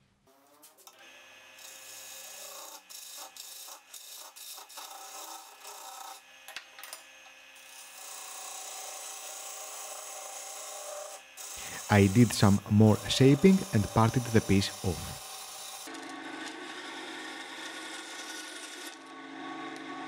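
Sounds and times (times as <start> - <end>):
wood lathe motor hum: 0.4 - 20.0
gouge cutting spinning wood: 1.1 - 6.5, 7.1 - 19.1.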